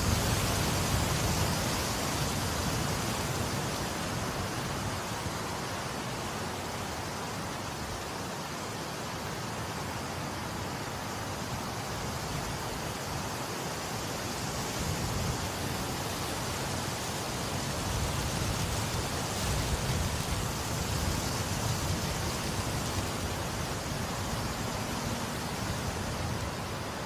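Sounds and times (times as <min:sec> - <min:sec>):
rushing wind: 0:00.0 - 0:27.0.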